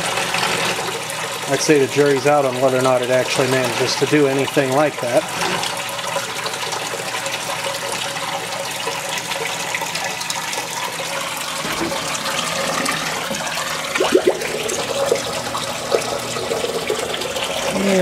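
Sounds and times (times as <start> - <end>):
water running in washer drum: 0.0 - 18.0.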